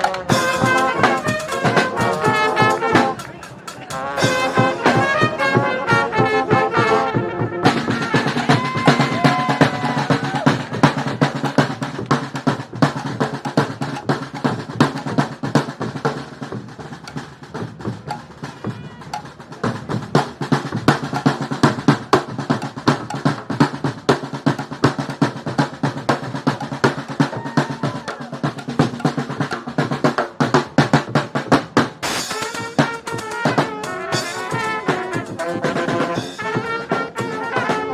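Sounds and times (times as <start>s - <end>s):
brass band playing: 0.0s - 14.2s, 20.2s - 37.9s
bass drum: 0.0s - 37.9s
snare drum rolls: 0.0s - 37.9s.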